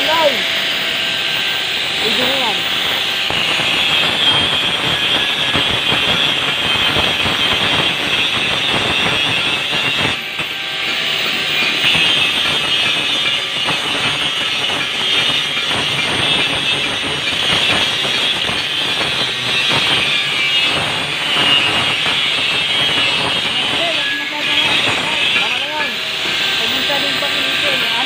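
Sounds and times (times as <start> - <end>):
angle grinder grinding metal: 0.0 - 28.0.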